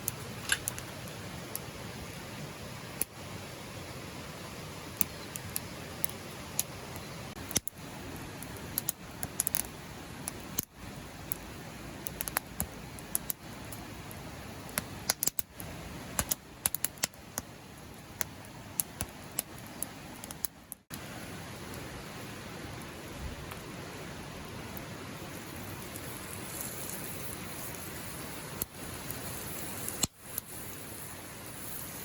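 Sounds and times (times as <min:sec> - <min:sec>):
firewood crackling and popping: 0:00.0 - 0:21.9, 0:23.4 - 0:32.0
fire hissing: 0:00.0 - 0:32.0.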